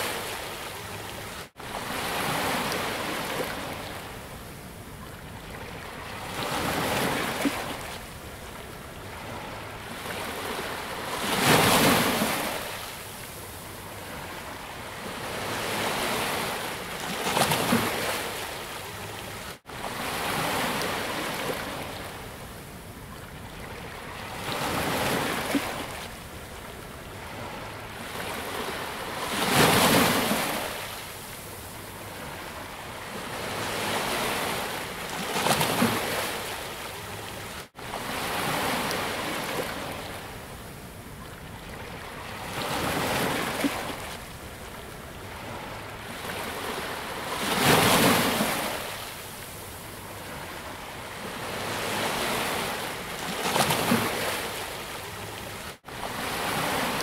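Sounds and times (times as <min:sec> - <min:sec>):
waves breaking on beach: 0:00.0 - 0:22.5, 0:23.5 - 0:57.0.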